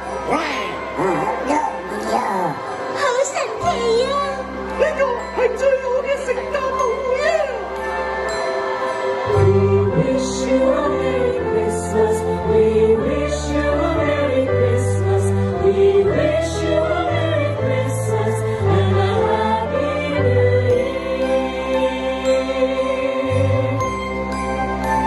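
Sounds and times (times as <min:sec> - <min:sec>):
voices singing a melody: 0:00.1 - 0:24.4.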